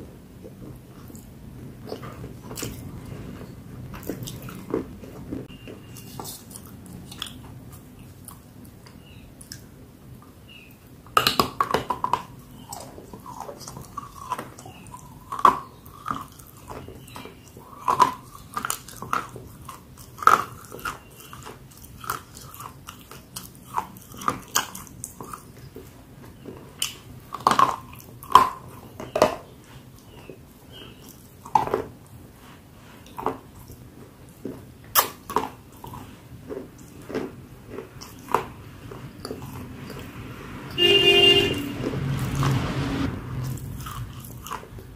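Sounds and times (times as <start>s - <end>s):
biting and chewing crunches: 0.0s - 9.7s, 10.5s - 32.2s, 32.8s - 40.7s, 43.4s - 44.9s.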